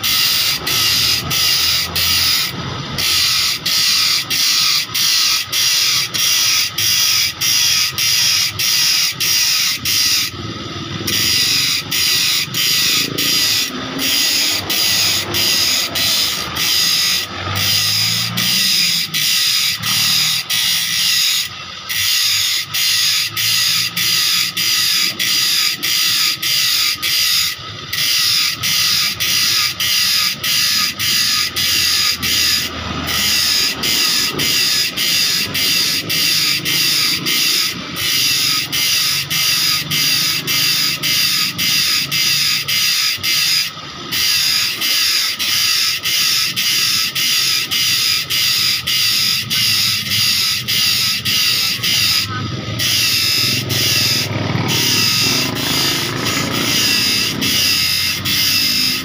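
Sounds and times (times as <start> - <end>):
grinder disc screeching on steel: 0.0 - 59.0
grinder motor whine: 0.0 - 59.0.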